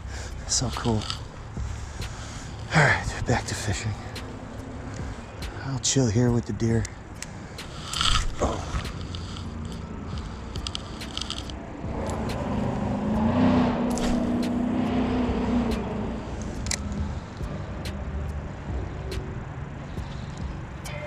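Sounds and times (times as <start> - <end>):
steady low rumble: 0.0 - 21.0
vehicle passing by: 0.0 - 21.0.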